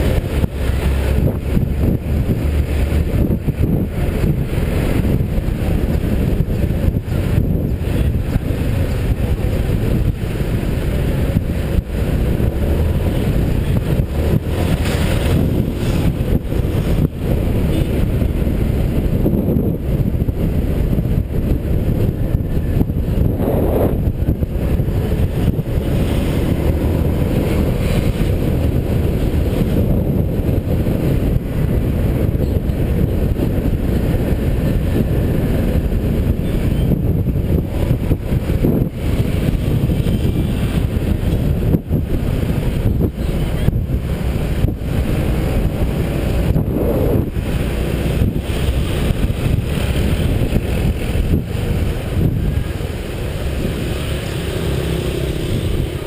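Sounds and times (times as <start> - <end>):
road and engine noise: 0.0 - 56.0
wind buffeting microphone: 0.0 - 56.0.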